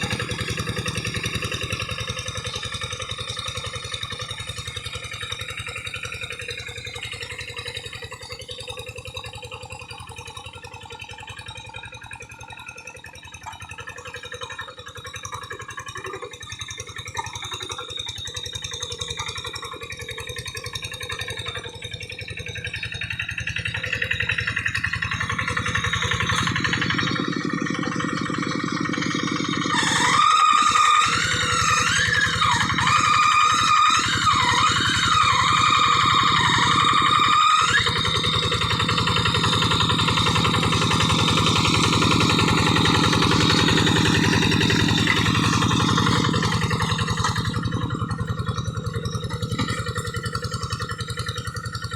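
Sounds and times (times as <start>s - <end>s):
diesel engine chugging: 0.0s - 51.9s.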